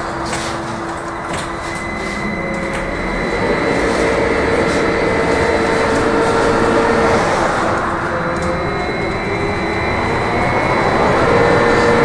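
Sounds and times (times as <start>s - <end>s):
electric traction drive whine: 0.0s - 12.0s
road and tyre noise: 0.0s - 12.0s.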